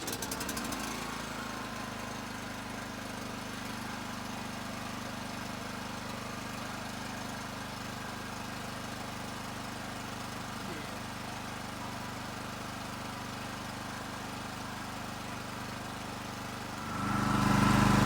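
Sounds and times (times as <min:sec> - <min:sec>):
small gas engine running: 0:00.0 - 0:18.0.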